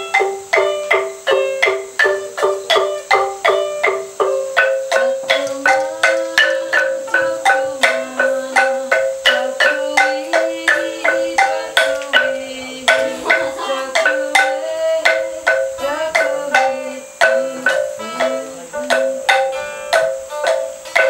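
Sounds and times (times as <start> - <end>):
plucked lute: 0.0 - 21.0
wooden xylophone: 0.0 - 21.0.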